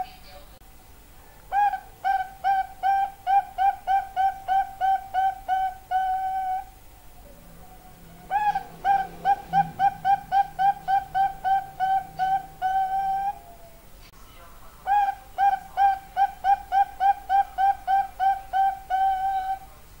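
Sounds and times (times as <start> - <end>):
dove cooing: 1.3 - 14.0, 14.8 - 19.9.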